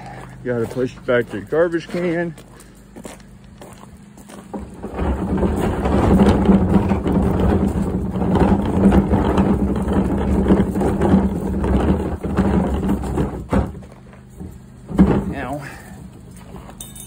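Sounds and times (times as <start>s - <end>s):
plastic bin wheels rumbling on gravel: 0.0s - 16.8s.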